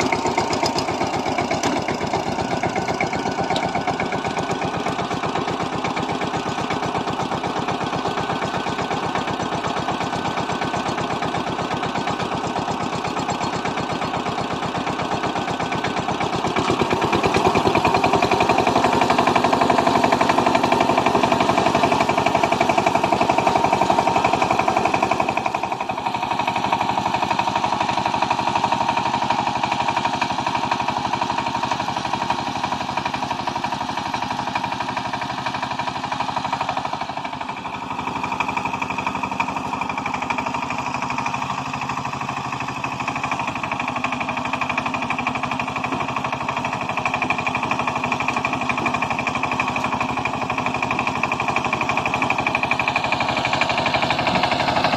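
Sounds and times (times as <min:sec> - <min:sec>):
diesel tiller engine running: 0:00.0 - 0:54.9.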